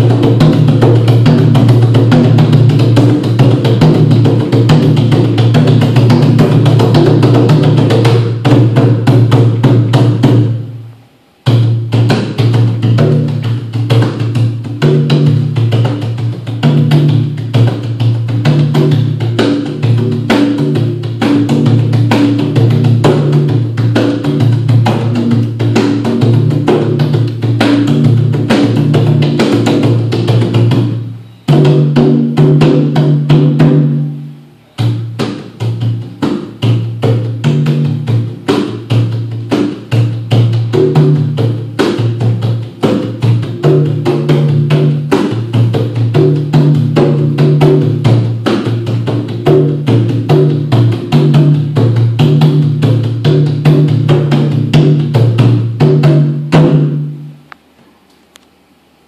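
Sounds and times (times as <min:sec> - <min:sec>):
conga drums played by hand: 0:00.0 - 0:10.6, 0:11.4 - 0:57.4.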